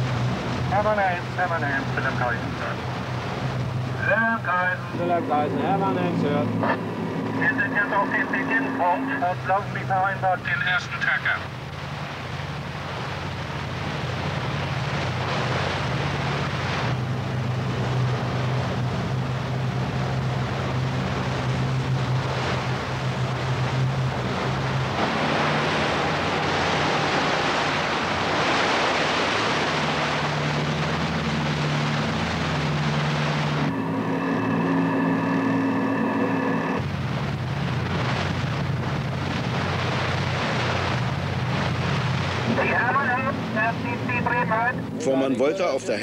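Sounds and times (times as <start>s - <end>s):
boat engine drone: 0.0s - 46.0s
water rushing: 0.0s - 46.0s.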